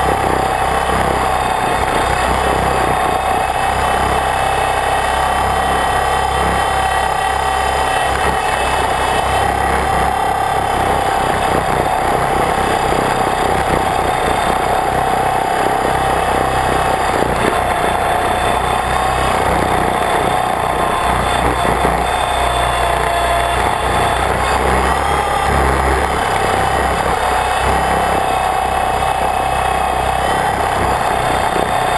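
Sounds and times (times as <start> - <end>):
drone propellers buzzing: 0.0 - 31.9.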